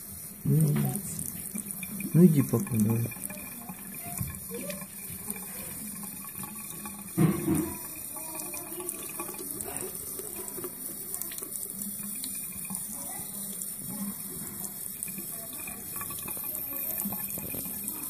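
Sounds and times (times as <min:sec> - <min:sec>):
tap water running into sink: 0:00.0 - 0:18.0.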